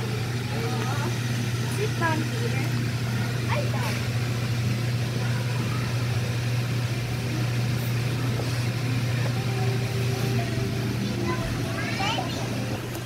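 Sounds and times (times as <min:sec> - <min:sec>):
steady low indoor hum: 0:00.0 - 0:13.0.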